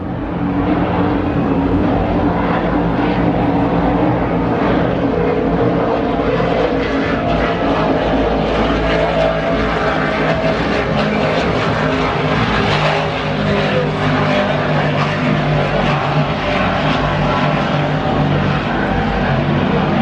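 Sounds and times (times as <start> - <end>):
powerboat engines droning: 0.0 - 20.0.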